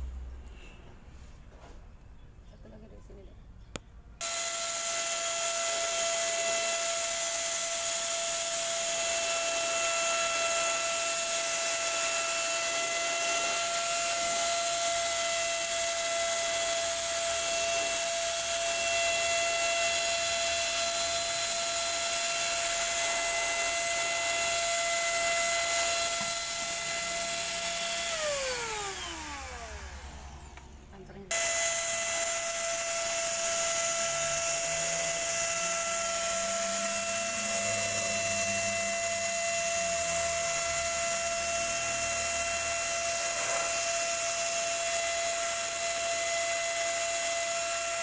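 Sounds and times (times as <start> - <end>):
paint spray gun whining: 4.2 - 48.0.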